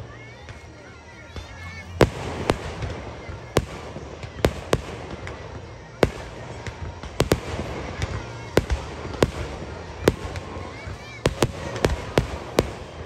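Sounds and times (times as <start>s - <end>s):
fireworks bangs: 0.0s - 13.0s
fireworks crackle and rumble: 0.0s - 13.0s.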